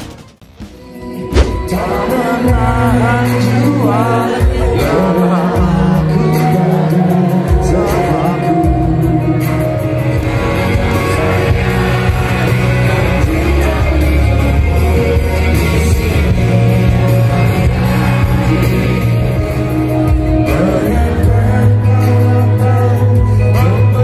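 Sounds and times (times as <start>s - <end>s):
bass: 0.0s - 24.0s
guitar: 0.0s - 24.0s
keyboards: 0.0s - 24.0s
man singing: 1.2s - 24.0s.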